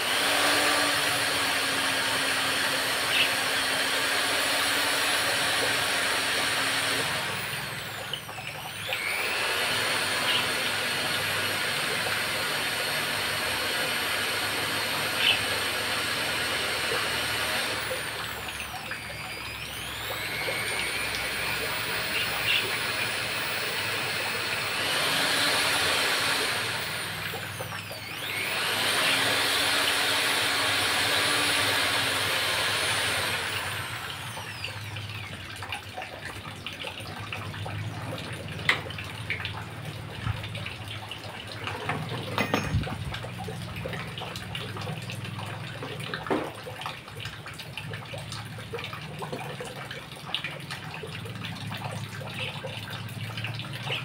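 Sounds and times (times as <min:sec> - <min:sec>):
electric drill motor spinning: 0:00.0 - 0:35.9, 0:37.8 - 0:46.5.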